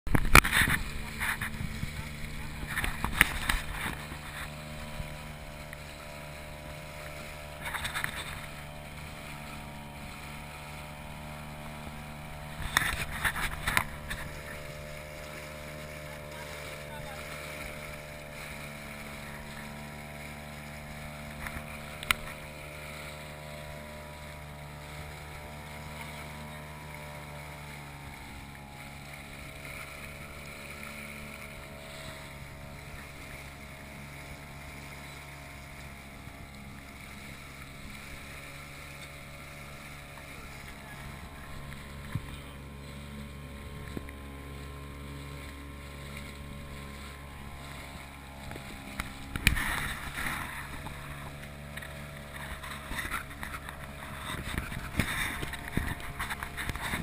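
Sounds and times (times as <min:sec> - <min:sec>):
water noise: 0:00.0 - 0:57.0
outboard motor running: 0:00.1 - 0:57.0.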